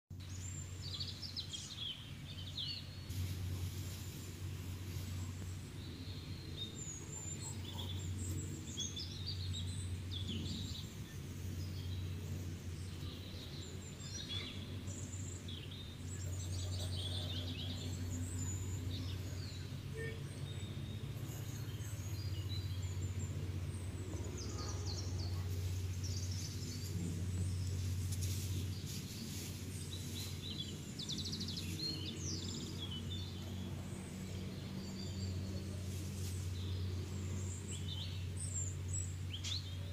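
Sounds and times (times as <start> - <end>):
small birds chirping: 0.1 - 39.9
steady low hum: 0.2 - 39.9.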